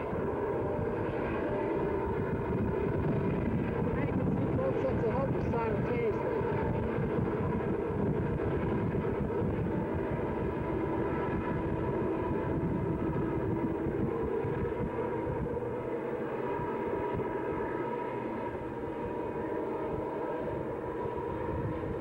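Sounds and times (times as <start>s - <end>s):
distant diesel locomotives droning: 0.0s - 22.0s
low rumble of freight train: 0.0s - 22.0s.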